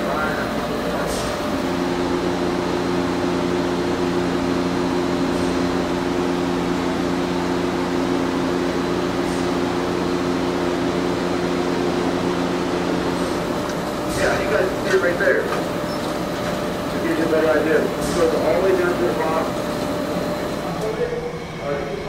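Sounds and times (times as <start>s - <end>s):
low machinery drone: 0.0s - 22.0s.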